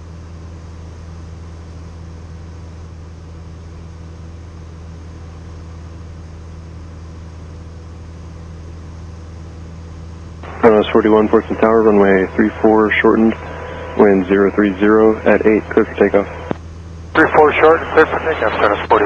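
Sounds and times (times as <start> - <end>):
airplane engine and propeller droning: 0.0 - 19.0.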